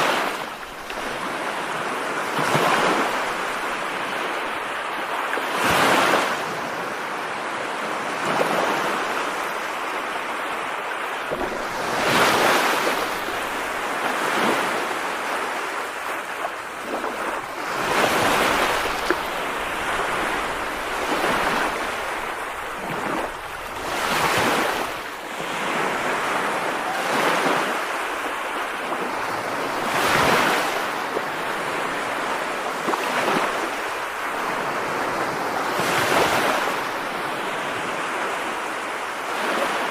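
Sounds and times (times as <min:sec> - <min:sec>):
rushing water: 0:00.0 - 0:07.2, 0:08.9 - 0:39.9.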